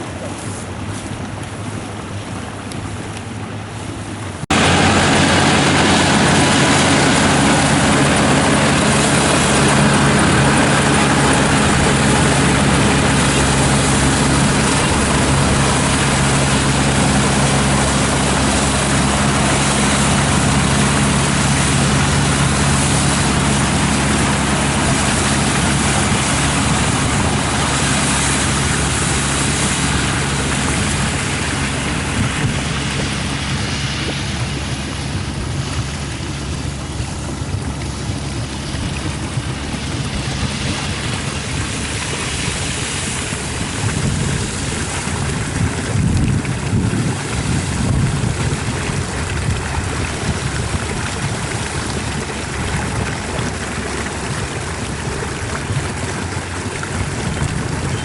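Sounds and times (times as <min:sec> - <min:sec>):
combine harvester engine drone: 0:00.0 - 0:58.0
wind noise: 0:03.6 - 0:58.0
dense rushing noise: 0:03.9 - 0:58.0.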